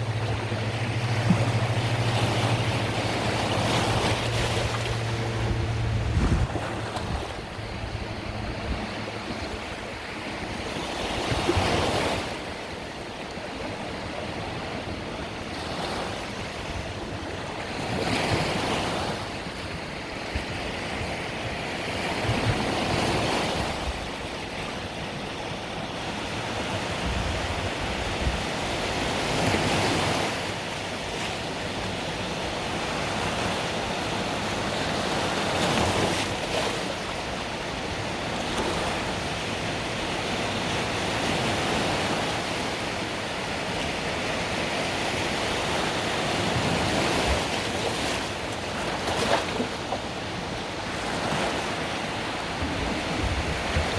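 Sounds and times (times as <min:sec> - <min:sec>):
wind rumble on microphone: 0:00.0 - 0:30.7, 0:37.8 - 0:53.9
waves breaking on shore: 0:00.0 - 0:53.9.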